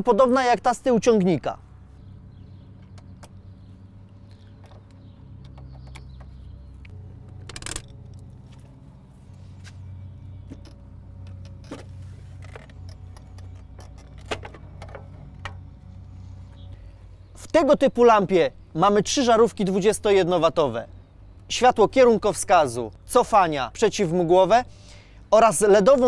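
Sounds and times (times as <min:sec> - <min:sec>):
steady low hum: 0:01.4 - 0:23.8.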